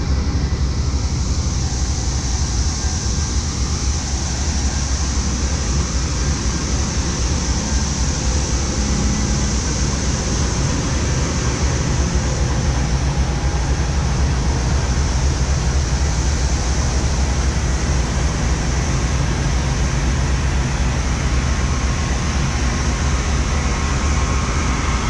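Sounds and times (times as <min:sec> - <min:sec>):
fan and blower noise: 0:00.0 - 0:25.0
locomotive engine hum: 0:00.0 - 0:25.0.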